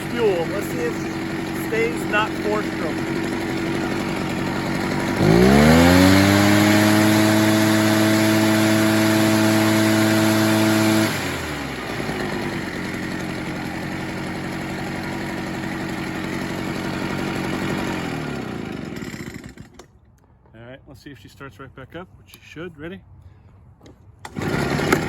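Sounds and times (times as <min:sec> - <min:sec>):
leaf blower engine revving: 0:00.0 - 0:19.9, 0:24.2 - 0:25.0.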